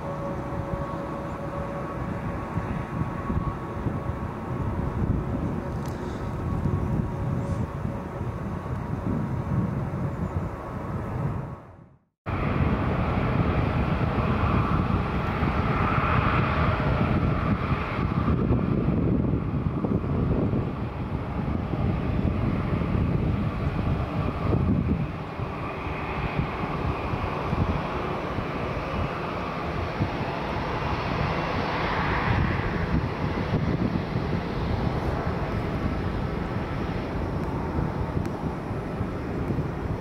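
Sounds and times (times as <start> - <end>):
aircraft engine rumble: 0.0 - 40.0.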